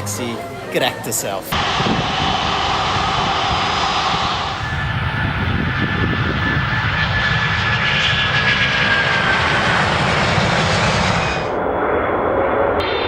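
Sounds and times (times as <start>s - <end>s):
airliner engines running: 1.4s - 13.0s
faint high engine whine: 1.4s - 13.0s.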